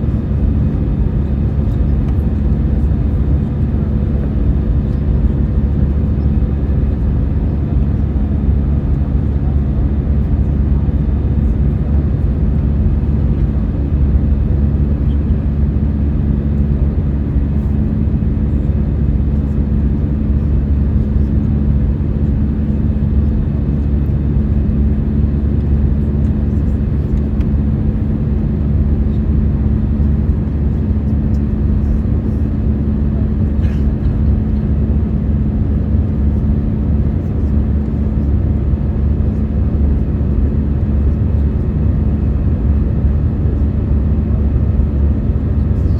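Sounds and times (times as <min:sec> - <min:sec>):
airplane cabin drone: 0:00.0 - 0:45.9.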